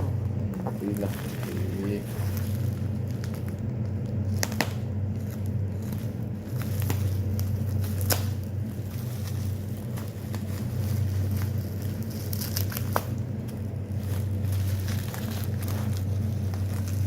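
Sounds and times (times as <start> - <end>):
packaging crackling: 0.0 - 17.0
steady low hum: 0.0 - 17.0.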